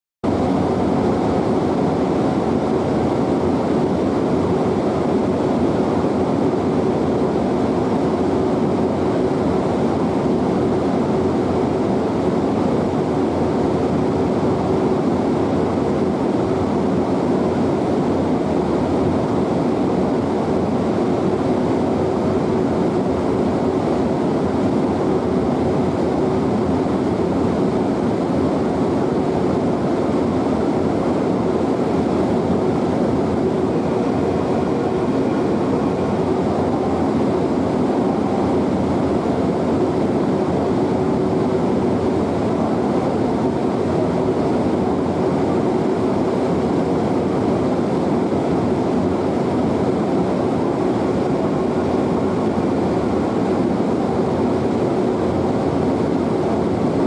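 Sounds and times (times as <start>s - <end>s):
train humming and rolling: 0.2s - 57.0s.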